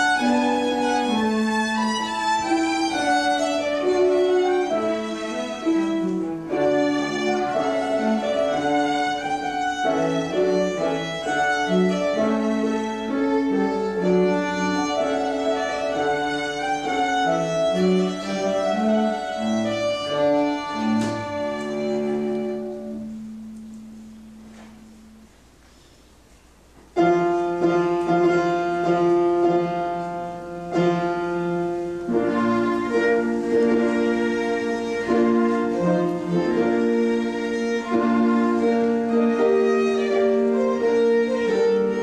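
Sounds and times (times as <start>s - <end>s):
violin playing processional music: 0.0s - 23.3s, 27.1s - 42.0s.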